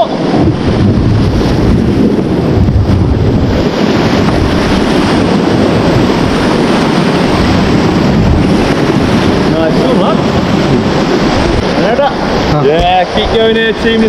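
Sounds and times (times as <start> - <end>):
river water rushing: 0.0 - 14.0
wind buffeting microphone: 0.0 - 14.0.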